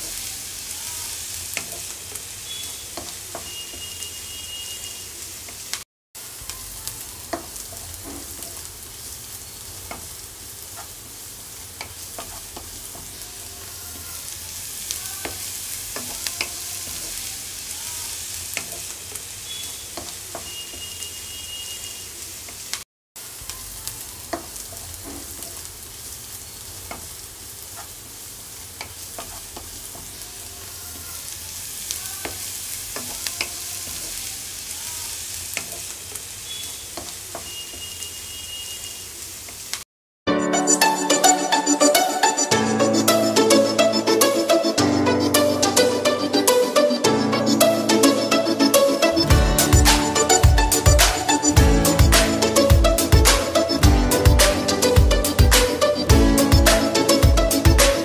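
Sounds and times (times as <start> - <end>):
garlic sizzling in a pan: 0.0 - 39.8, 47.6 - 58.0.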